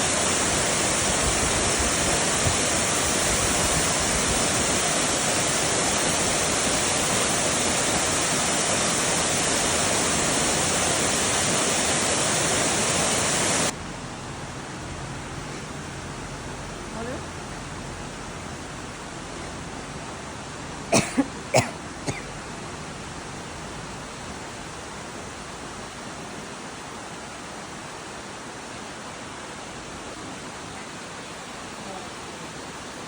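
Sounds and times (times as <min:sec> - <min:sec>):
waterfall rushing: 0:00.0 - 0:13.8, 0:15.5 - 0:33.0.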